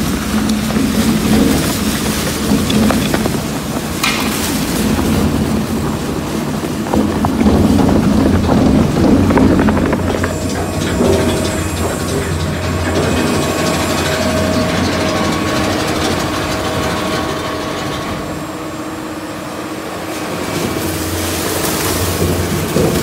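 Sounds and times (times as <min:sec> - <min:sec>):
shredder mechanical drone: 0:00.0 - 0:23.0.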